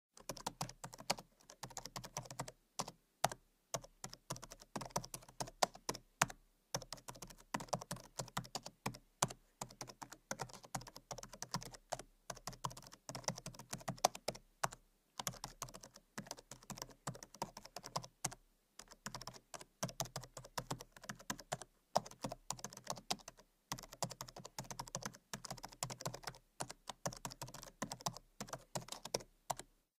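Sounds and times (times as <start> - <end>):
laptop keyboard typing: 0.2 - 29.7.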